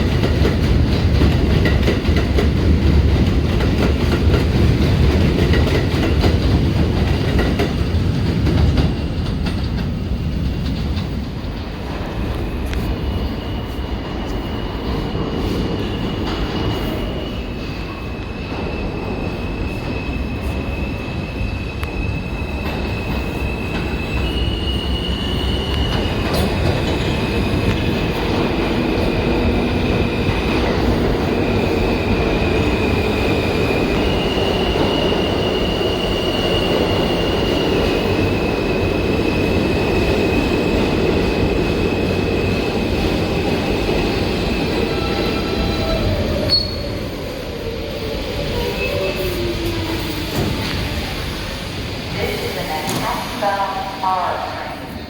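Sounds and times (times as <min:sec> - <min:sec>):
subway train rumbling: 0:00.0 - 0:55.0.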